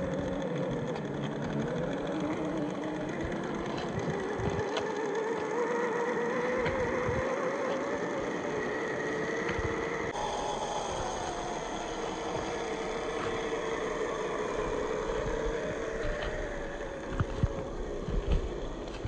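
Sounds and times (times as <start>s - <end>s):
toy car motor whine: 0.0s - 19.0s.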